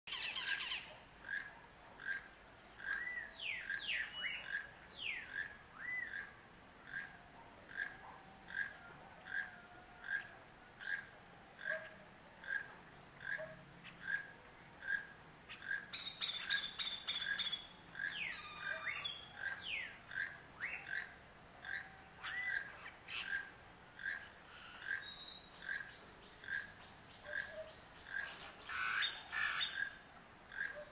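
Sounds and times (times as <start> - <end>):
toucan croaking call: 0.1 - 30.9.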